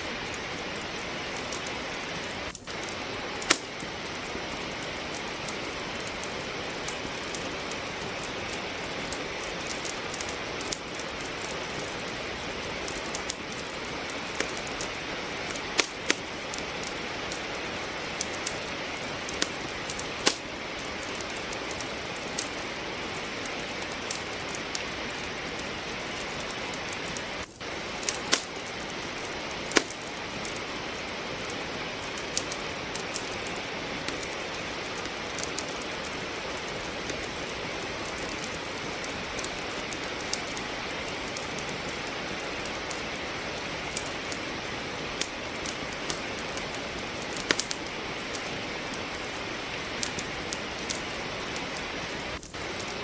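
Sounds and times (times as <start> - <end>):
steady rain hiss: 0.0 - 53.0
wood fire crackling: 0.0 - 53.0.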